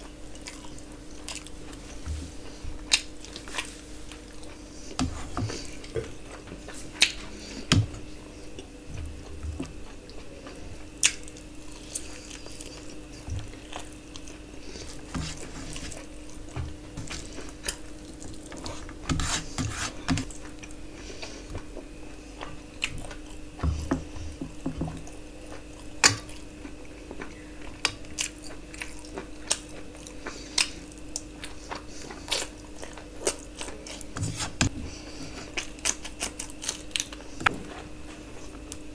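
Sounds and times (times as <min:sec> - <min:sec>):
steady low hum: 0:00.0 - 0:38.9
chewing and biting: 0:00.3 - 0:07.6, 0:08.5 - 0:19.0, 0:25.0 - 0:34.7, 0:35.3 - 0:38.9.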